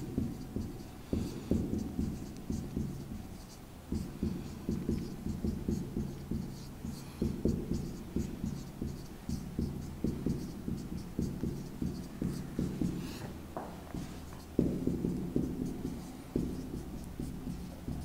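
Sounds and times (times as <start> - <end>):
marker writing on whiteboard: 0.0 - 18.0.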